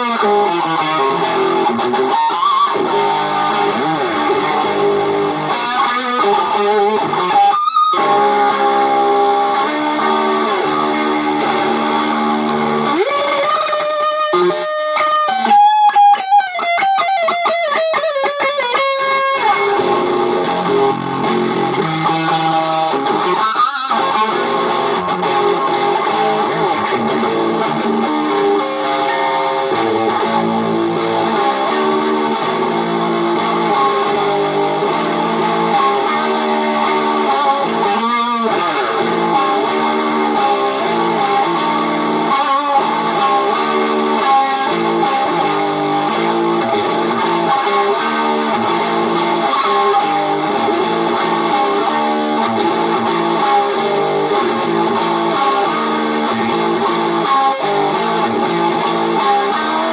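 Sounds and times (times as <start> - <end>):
electric guitar music: 0.0 - 59.9.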